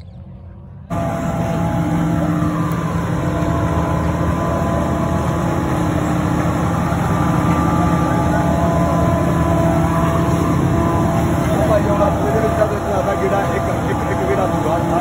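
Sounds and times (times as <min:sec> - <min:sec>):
forage harvester engine and cutter drone: 0:00.7 - 0:15.0.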